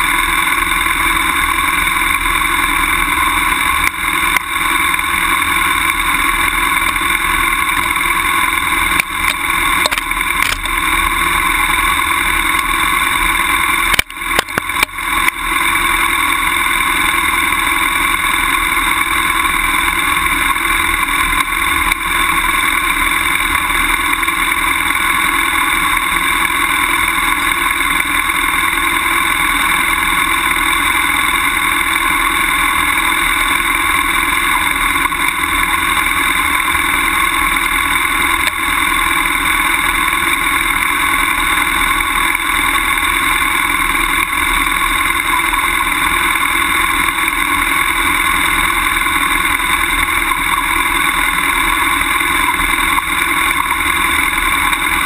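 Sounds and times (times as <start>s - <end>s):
motorcycle engine at steady revs: 0.0s - 55.0s.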